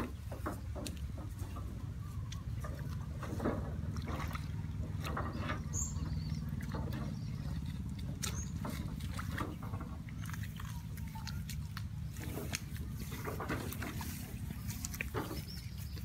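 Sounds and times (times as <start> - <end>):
squelching and splashing in mud: 0.0 - 16.0
steady low rumble: 0.0 - 16.0.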